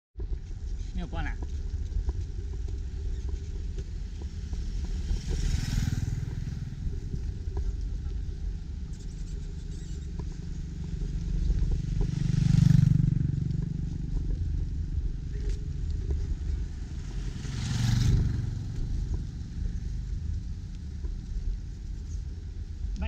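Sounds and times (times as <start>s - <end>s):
steady low rumble: 0.2s - 23.0s
motor scooters passing: 1.4s - 22.9s.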